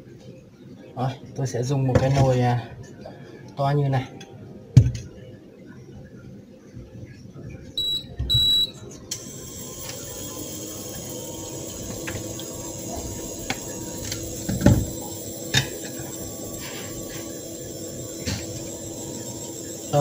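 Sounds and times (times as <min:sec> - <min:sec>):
cooktop humming with whine: 0:00.0 - 0:20.0.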